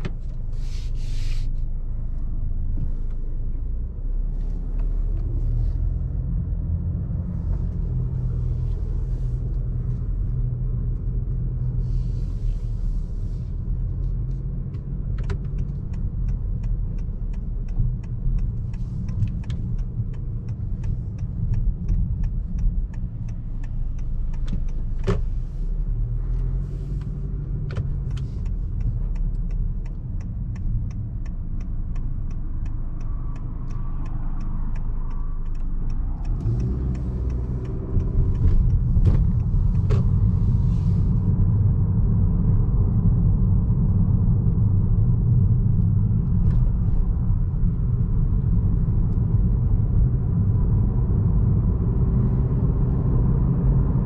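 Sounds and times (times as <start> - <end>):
car engine: 0.0 - 54.0
road rumble: 0.0 - 54.0.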